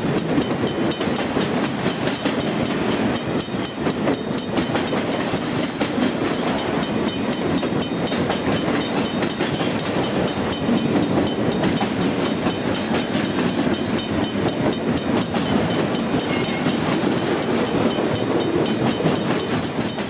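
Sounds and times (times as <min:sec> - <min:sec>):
freight train wheels rumbling: 0:00.0 - 0:20.0
rapid clicking and clacking: 0:00.0 - 0:20.0.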